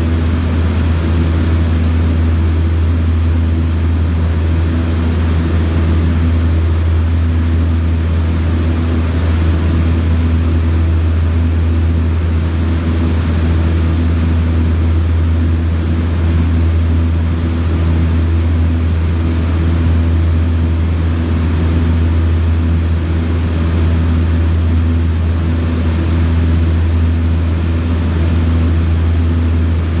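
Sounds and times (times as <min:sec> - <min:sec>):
propeller aircraft engines droning: 0:00.0 - 0:30.0.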